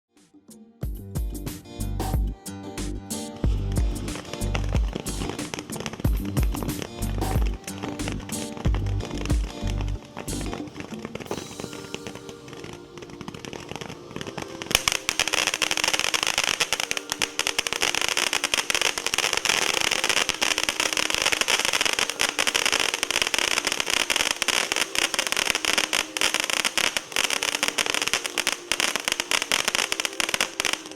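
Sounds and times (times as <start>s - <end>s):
firework fountain hissing and crackling: 3.4s - 30.9s.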